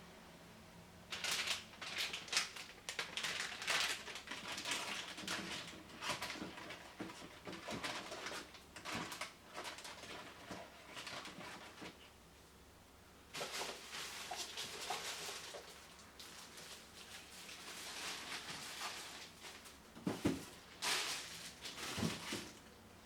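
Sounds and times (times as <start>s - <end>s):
packaging rustling: 1.1s - 12.0s, 13.3s - 22.6s.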